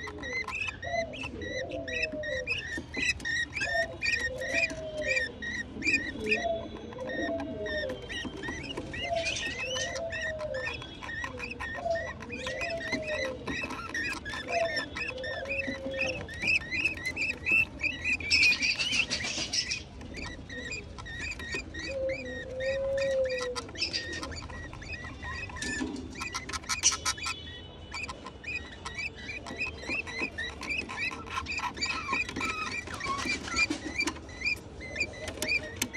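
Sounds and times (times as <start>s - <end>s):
chicks begging calls: 0.0s - 35.9s.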